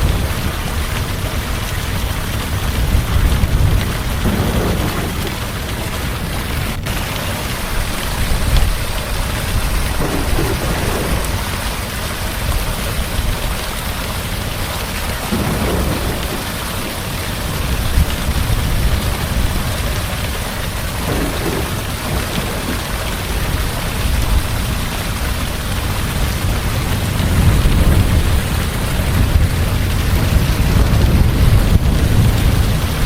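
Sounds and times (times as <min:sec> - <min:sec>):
thunder rumbling: 0:00.0 - 0:13.4, 0:14.6 - 0:33.0
heavy rain: 0:00.0 - 0:33.0.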